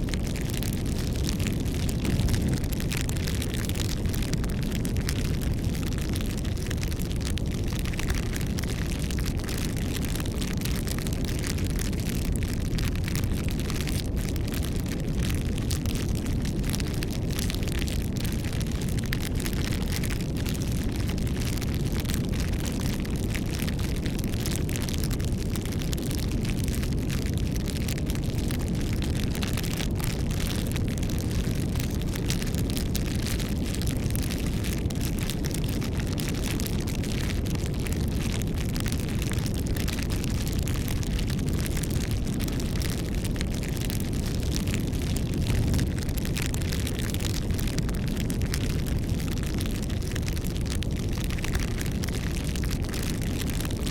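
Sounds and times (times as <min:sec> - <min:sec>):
burning wood crackling and popping: 0:00.0 - 0:53.9
wood fire flames rushing: 0:00.1 - 0:53.9.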